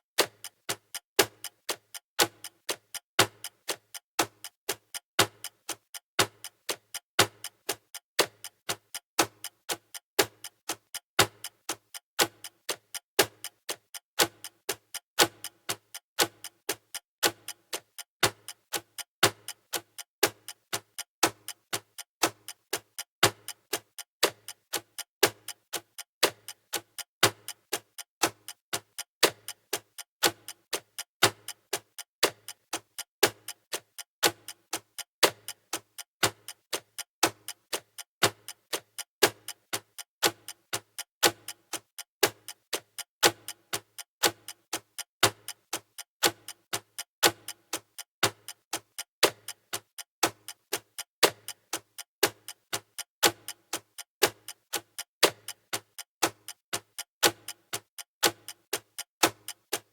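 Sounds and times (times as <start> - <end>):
timer ticking: 0.2 - 59.9.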